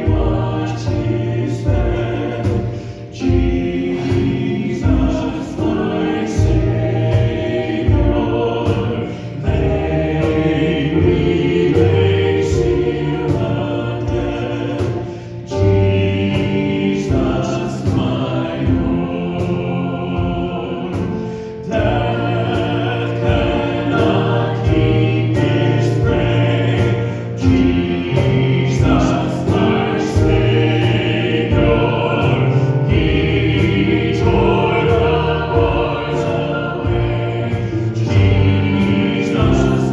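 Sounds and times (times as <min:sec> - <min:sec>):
congregation singing a hymn: 0:00.0 - 0:39.9
instruments accompanying: 0:00.0 - 0:39.9.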